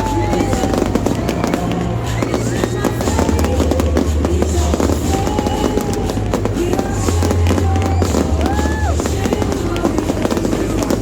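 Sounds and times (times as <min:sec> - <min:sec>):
fireworks bursting and crackling: 0:00.0 - 0:11.0
loud music with bass line: 0:00.0 - 0:11.0.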